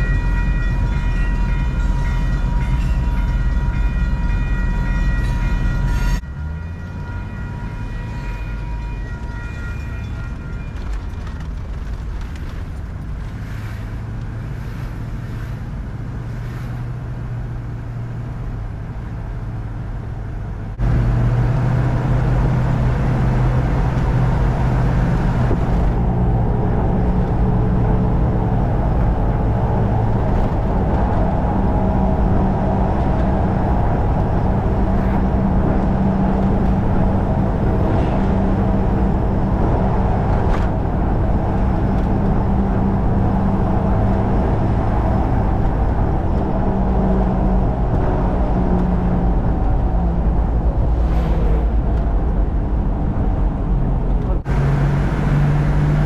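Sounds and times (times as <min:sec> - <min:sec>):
engine low drone: 0:00.0 - 0:56.0
road and wind noise: 0:00.0 - 0:56.0.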